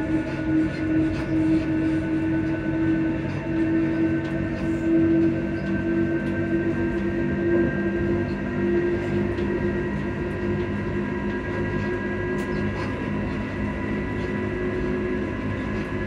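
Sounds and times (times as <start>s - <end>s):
train motor hum: 0.0s - 16.0s
train running rumble: 0.0s - 16.0s.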